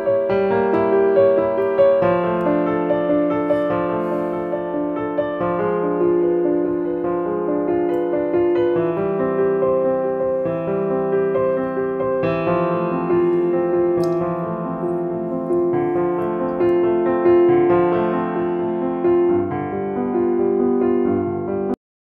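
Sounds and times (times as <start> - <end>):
slow piano music: 0.0 - 21.8.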